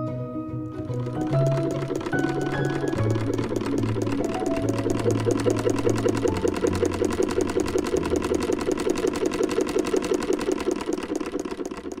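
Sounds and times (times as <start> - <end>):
sewing machine clicking: 0.6 - 12.0.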